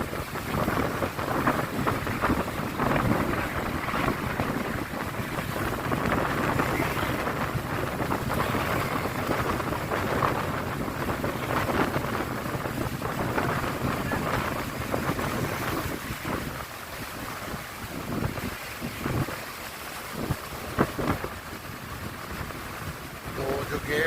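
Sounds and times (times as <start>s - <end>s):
floodwater rushing: 0.0s - 24.0s
wind buffeting microphone: 0.0s - 24.0s.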